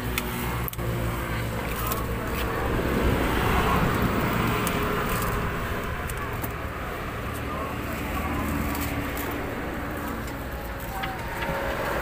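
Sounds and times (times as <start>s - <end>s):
street traffic hum: 0.0s - 12.0s
vehicle passing: 0.0s - 12.0s.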